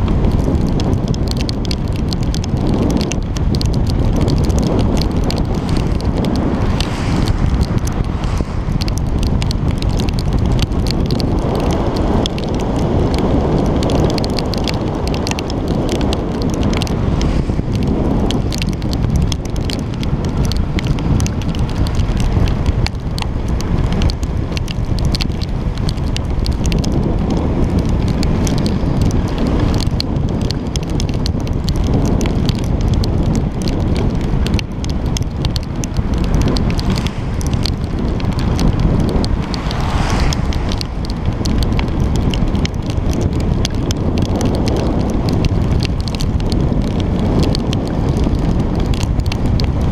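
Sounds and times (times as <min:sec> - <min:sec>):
raindrops ticking on camera: 0:00.0 - 0:49.9
wind buffeting microphone: 0:00.0 - 0:49.9.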